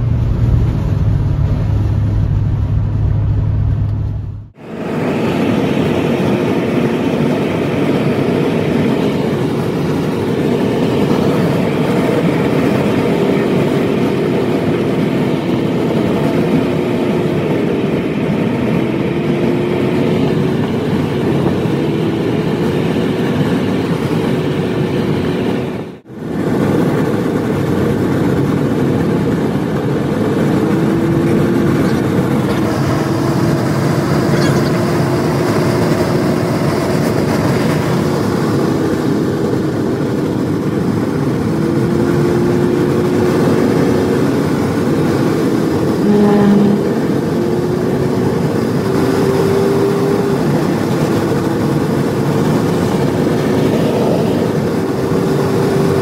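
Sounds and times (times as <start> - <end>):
truck engine and tyre noise: 0.0 - 56.0.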